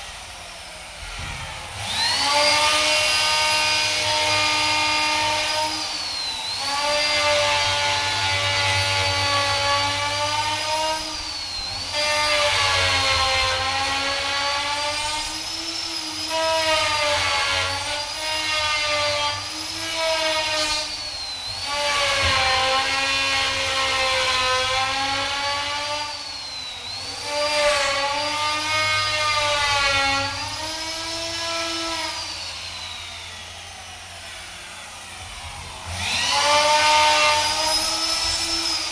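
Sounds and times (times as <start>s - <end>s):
power tool cutting wood: 0.0s - 38.9s.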